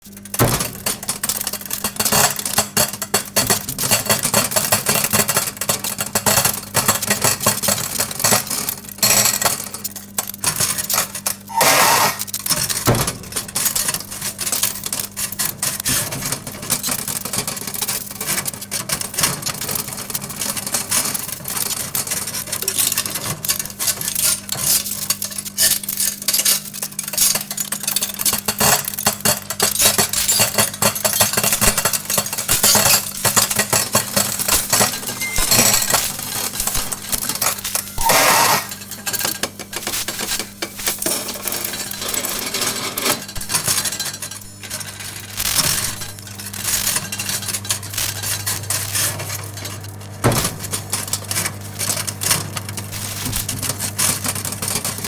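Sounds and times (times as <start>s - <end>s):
crackling sparks in microwave: 0.0s - 55.0s
microwave oven humming: 0.0s - 55.0s.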